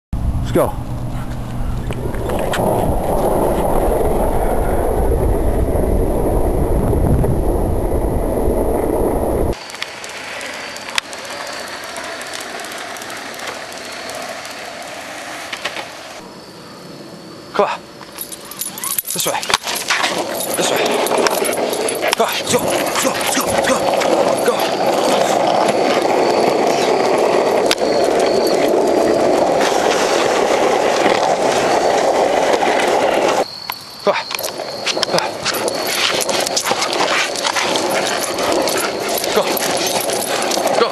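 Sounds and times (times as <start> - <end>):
longboard wheels rolling on pavement: 0.2 - 18.4, 19.4 - 40.9.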